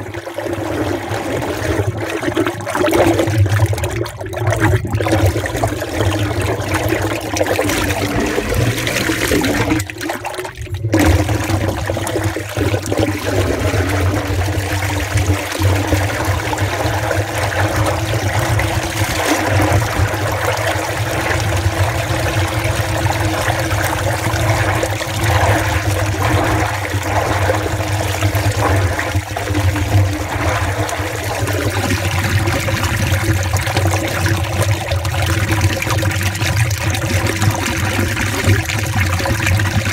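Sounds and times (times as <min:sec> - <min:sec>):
wastewater rushing through pipe: 0:00.0 - 0:39.9.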